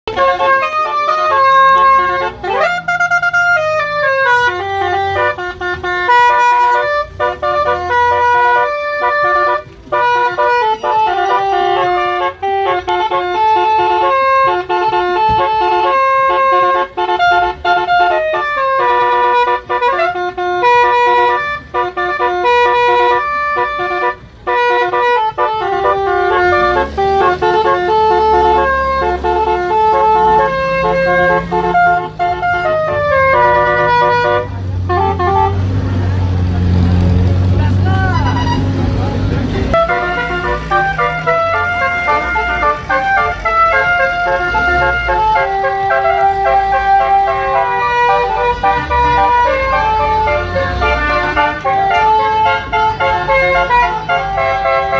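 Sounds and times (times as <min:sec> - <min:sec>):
musical air horn melody: 0:00.0 - 0:54.9.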